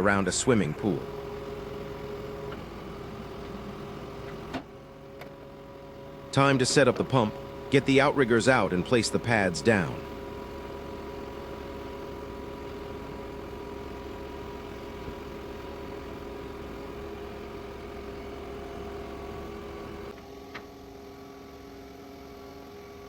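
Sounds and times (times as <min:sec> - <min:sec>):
truck engine humming: 0:00.0 - 0:20.2.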